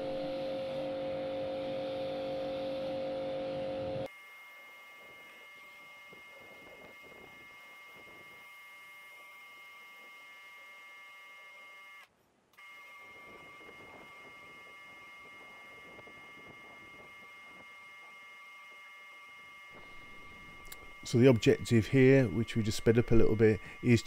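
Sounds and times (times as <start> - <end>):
faint electrical whine: 0.0 - 24.0.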